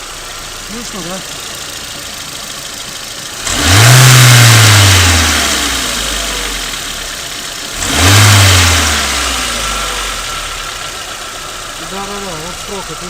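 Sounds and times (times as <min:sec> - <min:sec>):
car engine revving: 0:00.0 - 0:13.0
engine valve chatter: 0:00.0 - 0:13.0.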